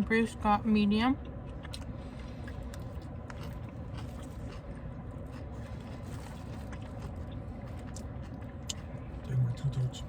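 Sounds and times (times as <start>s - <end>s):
steady low rumble: 0.0s - 10.0s
chewing with mouth smacks: 1.2s - 10.0s.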